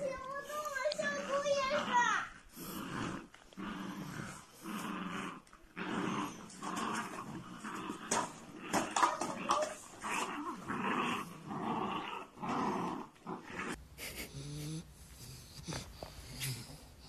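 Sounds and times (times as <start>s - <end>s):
puppies growling: 0.0s - 17.0s.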